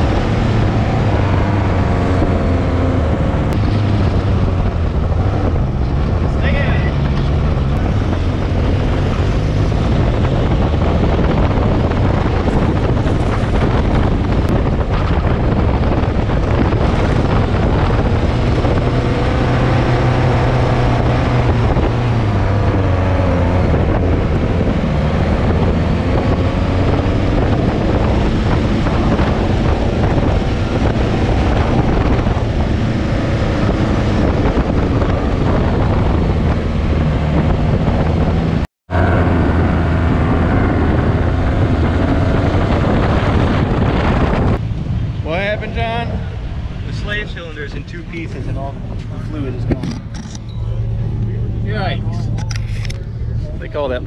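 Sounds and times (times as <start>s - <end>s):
vehicle engine under load: 0.0s - 54.0s
wind buffeting microphone: 0.0s - 54.0s.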